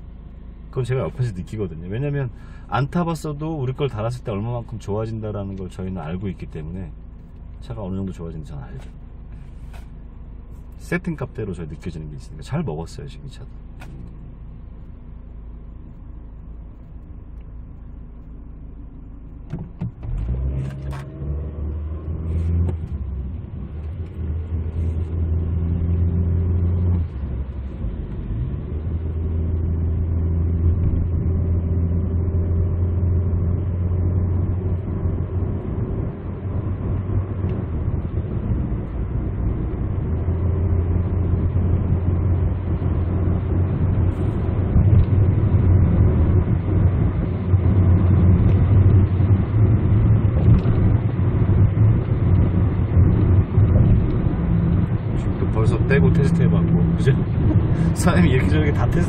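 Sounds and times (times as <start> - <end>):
car engine idling and accelerating: 0.0 - 59.0
road drone while cruising: 0.0 - 59.0.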